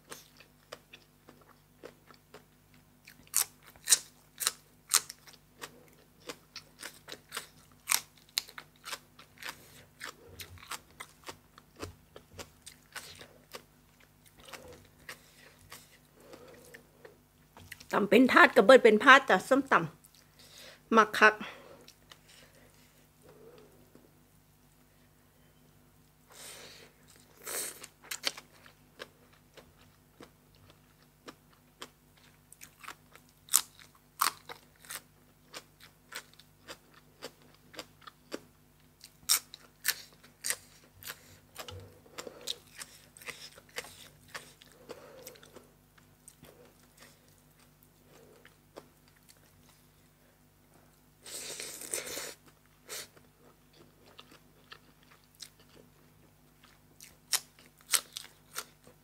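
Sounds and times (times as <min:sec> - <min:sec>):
person chewing crisp food: 0:00.0 - 0:17.9, 0:21.8 - 0:24.1, 0:26.3 - 0:59.0.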